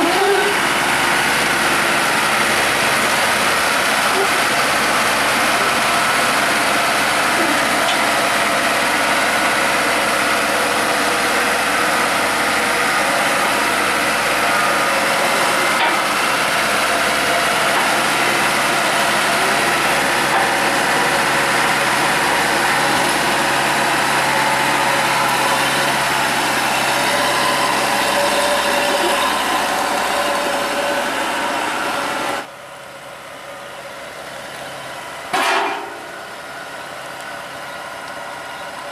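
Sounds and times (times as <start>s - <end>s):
harvester engine running: 0.0s - 38.9s.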